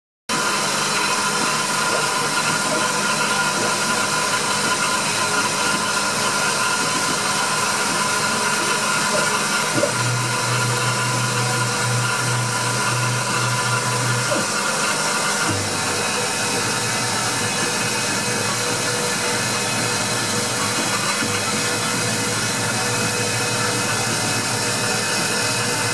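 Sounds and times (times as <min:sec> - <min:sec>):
milling machine whine: 0:00.3 - 0:25.9.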